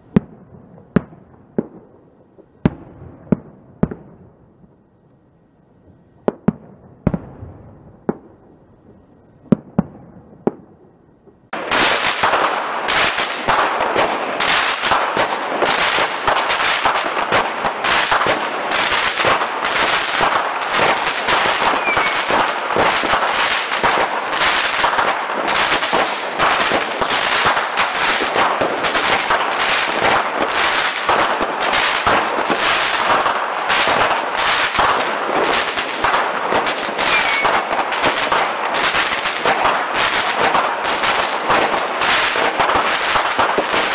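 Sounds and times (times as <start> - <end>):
fireworks bangs and crackling: 0.0 - 5.0, 5.8 - 43.9.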